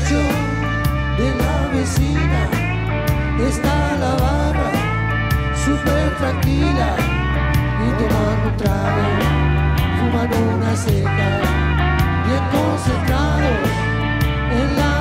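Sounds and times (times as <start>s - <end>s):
bending guitar lead melody: 0.0s - 15.0s
live rock band playing: 0.0s - 15.0s.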